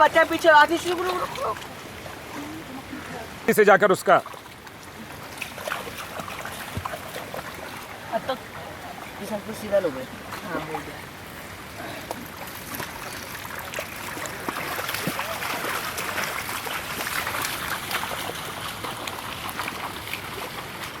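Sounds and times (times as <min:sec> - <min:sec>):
water splashing and running: 0:00.0 - 0:21.0.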